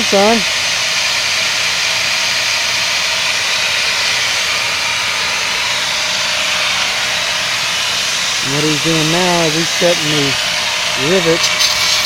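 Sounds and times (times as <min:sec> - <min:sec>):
grinder cutting metal: 0:00.0 - 0:12.0.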